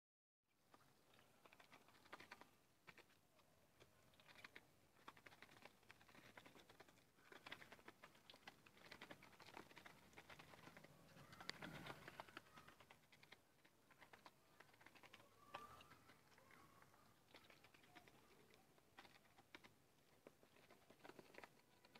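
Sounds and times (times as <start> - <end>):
ducklings pecking at dry feed: 0.6 - 21.9.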